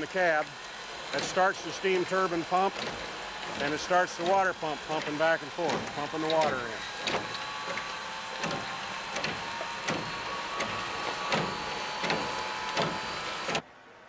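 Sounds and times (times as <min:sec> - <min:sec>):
pump knocking: 0:00.0 - 0:13.6
steady steam hiss: 0:00.0 - 0:13.6.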